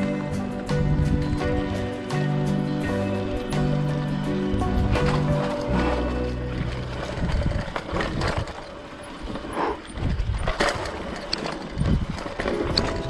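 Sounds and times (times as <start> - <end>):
mountain bike rattling over mud: 0.0 - 13.0.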